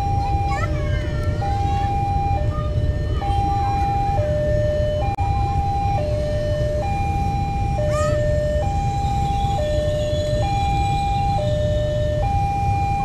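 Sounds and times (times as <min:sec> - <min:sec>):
level crossing two-tone alarm: 0:00.0 - 0:13.0
low rumble of traffic: 0:00.0 - 0:13.0.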